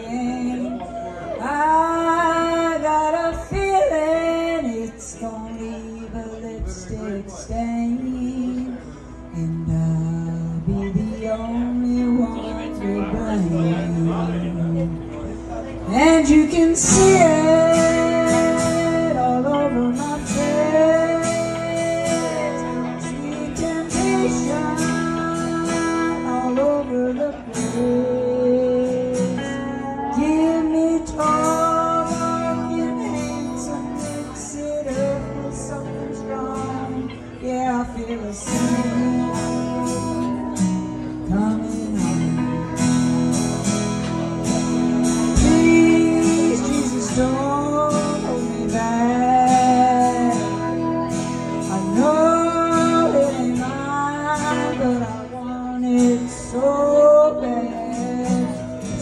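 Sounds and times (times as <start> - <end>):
woman singing: 0.0 - 8.8, 15.9 - 42.8, 44.8 - 59.0
strummed acoustic guitar: 0.0 - 59.0.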